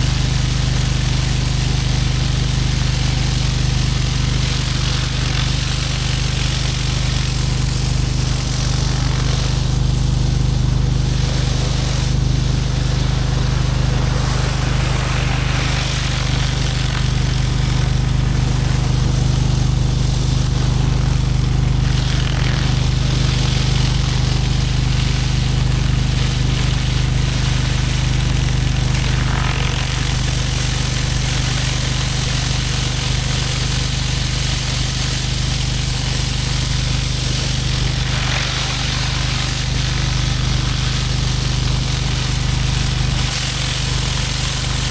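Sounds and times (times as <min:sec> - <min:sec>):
high-pressure water spraying concrete: 0:00.0 - 0:44.9
pressure washer engine running: 0:00.0 - 0:44.9.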